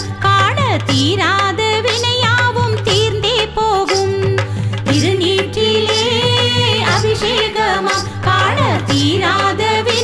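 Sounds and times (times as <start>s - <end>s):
devotional song melody: 0.0s - 10.0s.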